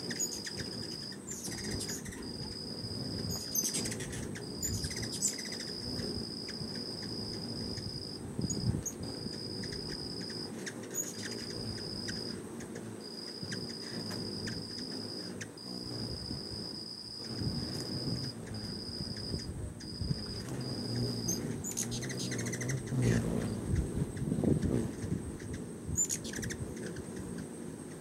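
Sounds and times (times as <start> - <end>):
high insect trill: 0.0 - 28.0
hummingbird wings humming: 0.0 - 28.0.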